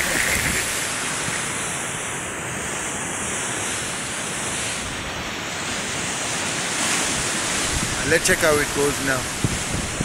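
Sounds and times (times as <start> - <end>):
wind on microphone: 0.0 - 2.3, 3.6 - 10.0
rough surf against rocks: 0.0 - 10.0.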